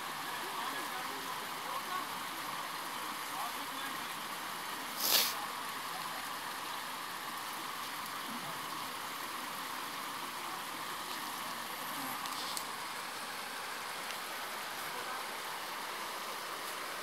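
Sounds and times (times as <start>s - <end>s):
small stream running: 0.0s - 17.0s.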